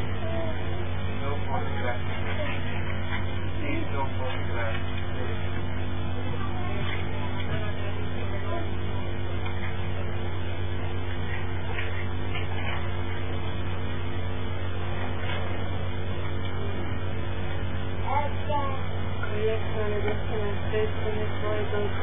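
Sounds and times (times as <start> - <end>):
low hum and hiss: 0.0 - 22.0.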